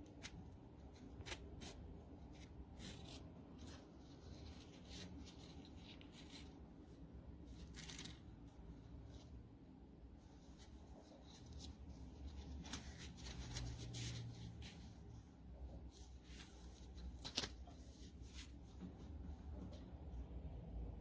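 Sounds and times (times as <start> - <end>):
low steady hum: 0.0 - 21.0
handling rustling: 0.1 - 19.9.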